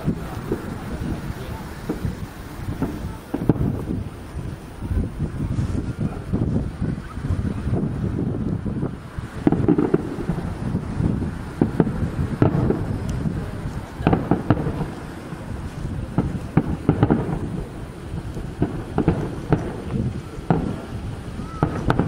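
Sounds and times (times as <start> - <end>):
distant firework booms: 0.0 - 22.0
wind rumble on microphone: 0.0 - 22.0.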